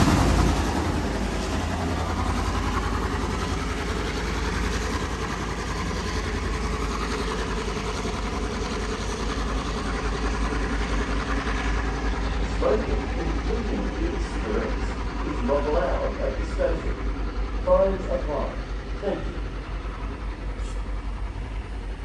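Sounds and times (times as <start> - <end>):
diesel locomotive engine humming: 0.0 - 22.0.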